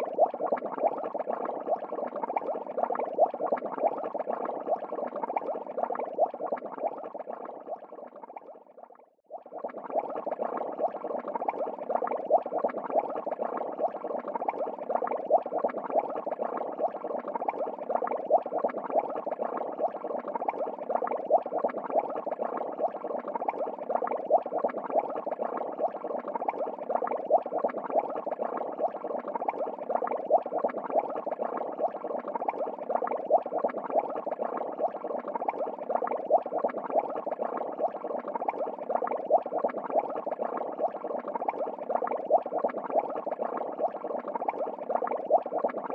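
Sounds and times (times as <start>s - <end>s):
aquarium aeration bubbling: 0.0s - 45.9s.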